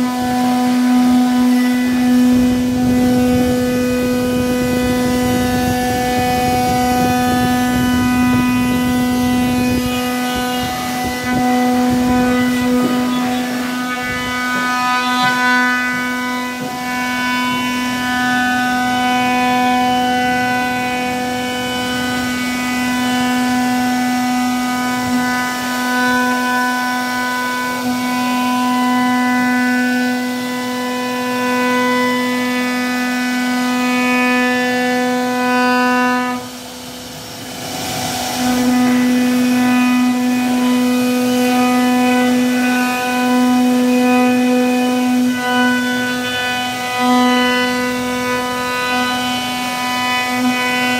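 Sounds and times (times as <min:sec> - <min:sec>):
router spindle whining: 0:00.0 - 0:50.9.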